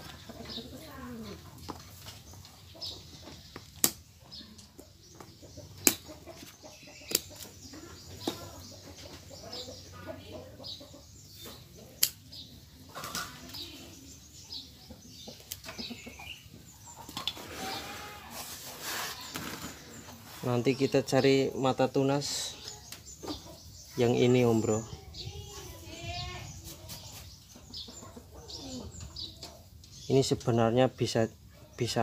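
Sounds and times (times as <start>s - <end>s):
birds chirping: 0.0s - 32.0s
chickens clucking: 0.0s - 32.0s.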